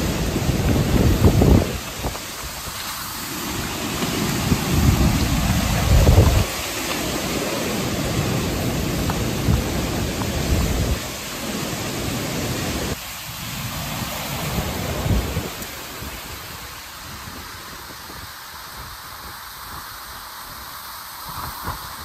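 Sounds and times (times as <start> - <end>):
heavy wind-driven rain: 0.0 - 22.0
wind buffeting microphone: 0.0 - 22.0.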